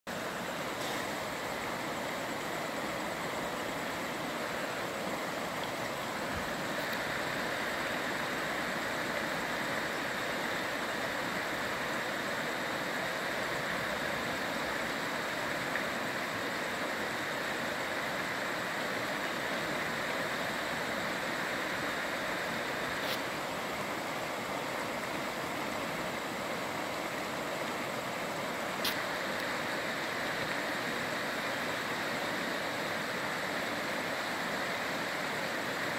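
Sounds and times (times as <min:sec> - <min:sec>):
river rushing over rapids: 0:00.1 - 0:35.9.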